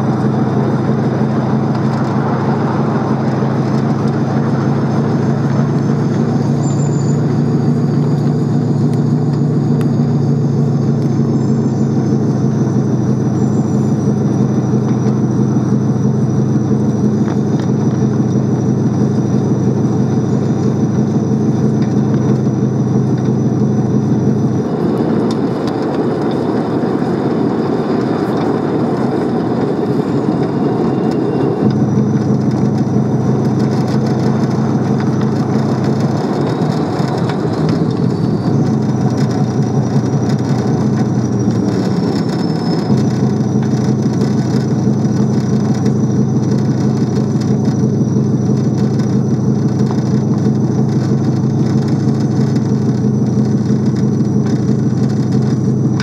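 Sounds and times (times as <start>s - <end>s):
locomotive engine drone: 0.0s - 56.0s
wheels rumbling on rails: 0.0s - 56.0s.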